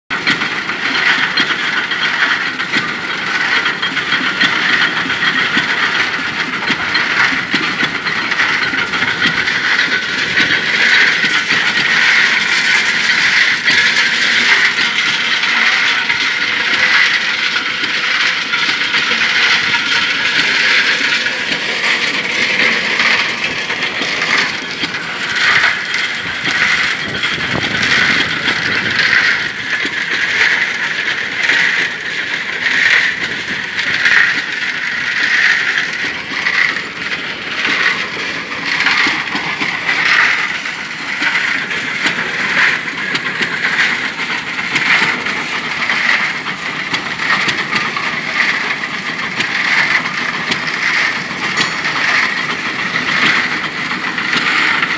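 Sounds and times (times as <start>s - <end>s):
concrete mixer drum clattering: 0.1s - 54.9s
continuous clicking: 0.1s - 54.9s
engine pulsing: 0.1s - 54.9s.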